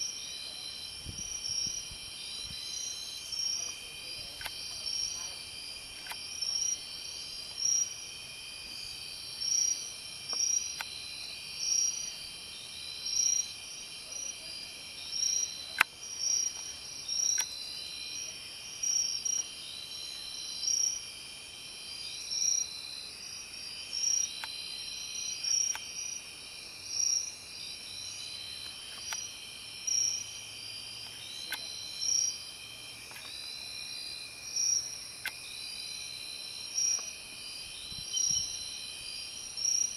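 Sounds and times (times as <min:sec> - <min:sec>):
insects trilling: 0:00.0 - 0:39.9
loud insect chirp: 0:00.0 - 0:39.9.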